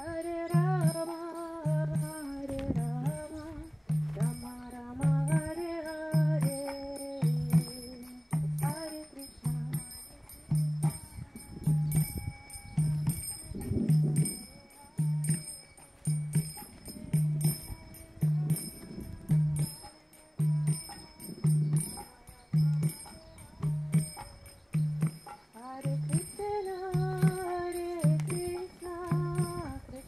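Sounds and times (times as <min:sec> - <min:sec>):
hand cymbals jingling: 0:00.0 - 0:30.0
low drum beats: 0:00.0 - 0:30.0.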